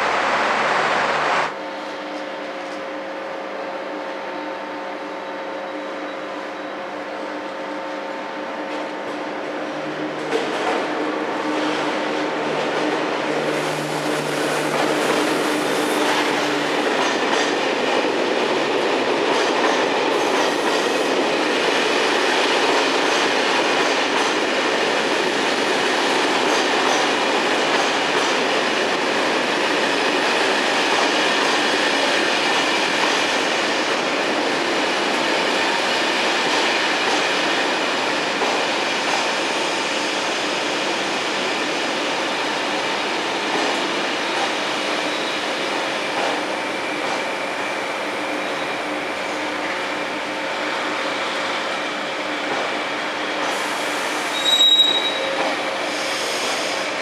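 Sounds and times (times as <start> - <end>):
electric locomotive hum: 0.0 - 57.0
train wheels on rails: 6.4 - 57.0.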